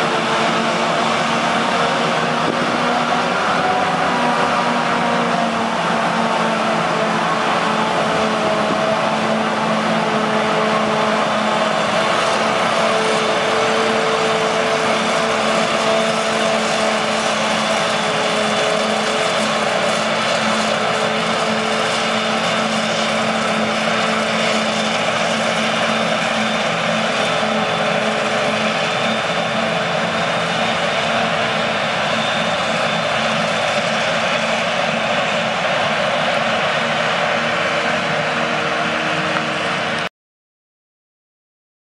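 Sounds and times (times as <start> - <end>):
machinery drone: 0.0 - 40.1.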